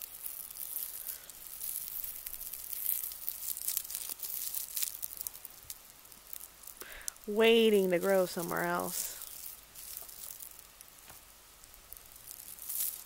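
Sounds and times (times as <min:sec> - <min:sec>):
dried burrs crackling: 0:00.0 - 0:13.0.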